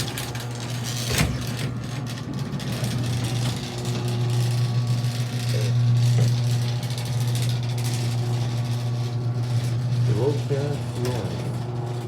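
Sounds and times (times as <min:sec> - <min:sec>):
garage door opener motor humming: 0:00.0 - 0:12.0.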